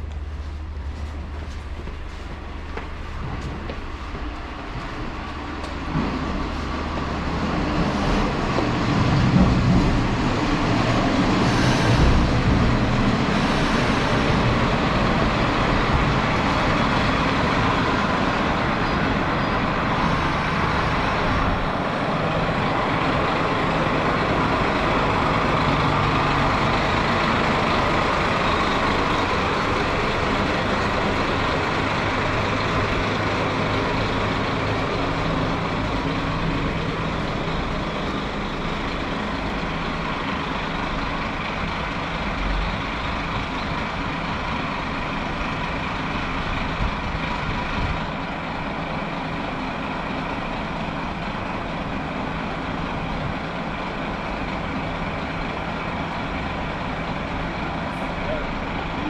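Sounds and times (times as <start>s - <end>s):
large vehicle engine running: 0.0s - 59.0s.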